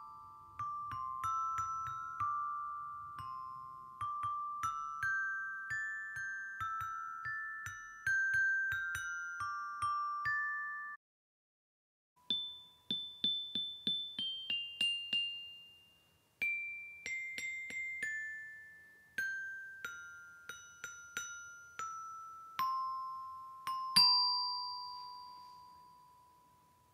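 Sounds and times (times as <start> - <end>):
metallophone melody: 0.0 - 11.0, 12.2 - 26.9.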